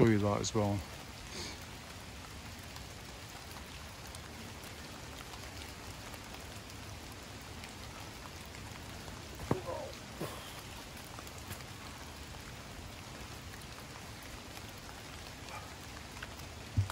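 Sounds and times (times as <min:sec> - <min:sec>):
light rain pattering and dripping: 0:00.0 - 0:16.9.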